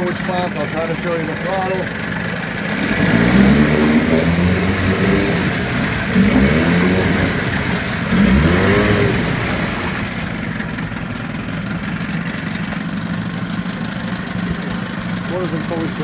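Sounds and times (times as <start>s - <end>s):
outboard engine revving: 0.0s - 16.0s
water churning: 0.0s - 16.0s.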